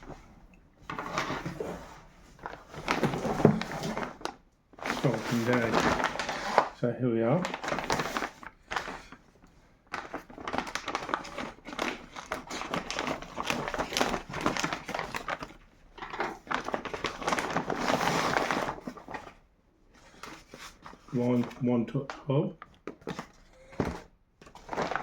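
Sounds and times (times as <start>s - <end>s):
plastic packaging crinkling: 2.4s - 19.4s, 20.2s - 25.0s.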